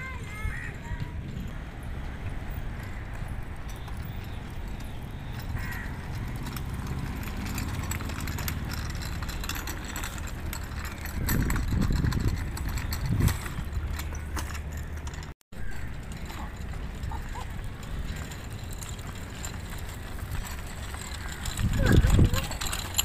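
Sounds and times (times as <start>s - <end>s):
bicycle rattling over paving tiles: 0.0s - 23.0s
low bumps: 0.0s - 23.0s.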